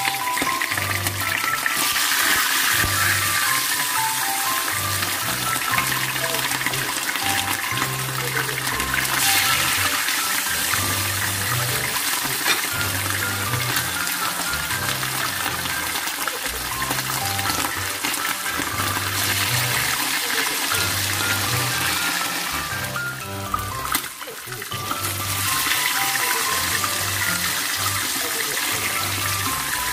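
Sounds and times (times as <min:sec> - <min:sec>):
fish sizzling in hot oil: 0:00.0 - 0:29.9
background music with bass line: 0:02.7 - 0:20.0, 0:20.7 - 0:28.1, 0:28.7 - 0:29.9.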